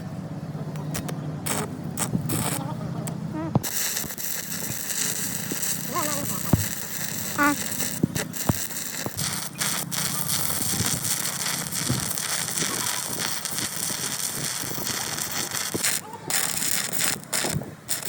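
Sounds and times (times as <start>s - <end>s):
faint voices: 0.0s - 17.8s
crackling hiss of metalwork: 0.8s - 2.7s, 3.6s - 18.0s.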